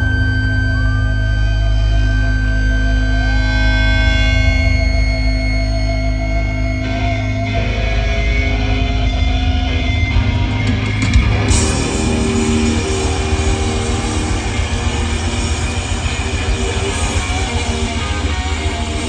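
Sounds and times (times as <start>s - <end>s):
hard rock band playing live: 0.0s - 19.0s.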